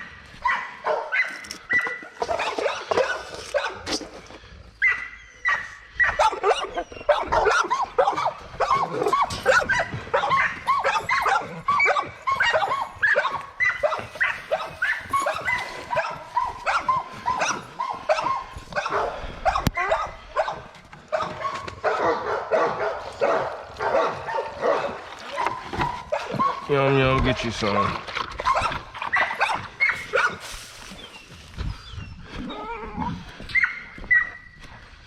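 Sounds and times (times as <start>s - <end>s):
dogs barking yipping and whining: 0.0s - 27.1s, 28.4s - 34.6s.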